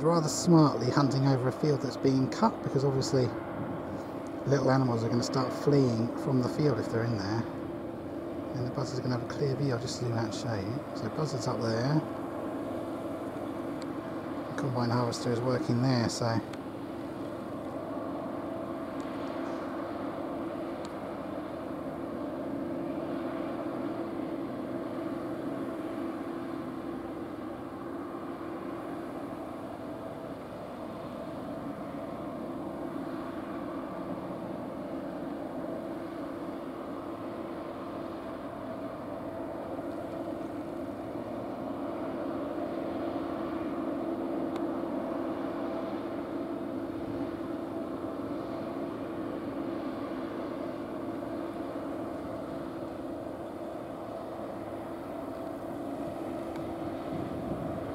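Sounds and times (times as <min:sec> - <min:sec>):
combine harvester engine drone: 0:00.0 - 0:57.9.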